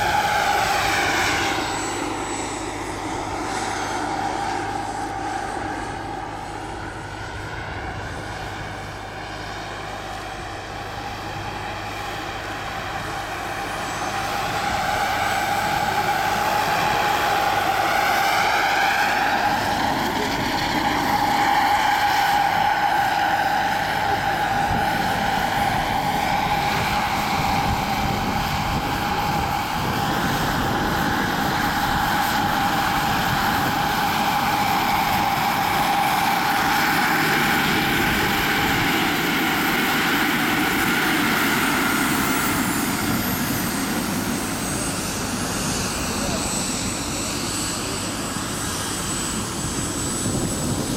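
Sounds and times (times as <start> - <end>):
helicopter rotor blades: 0.0 - 50.9
turbine engine whine: 0.0 - 50.9.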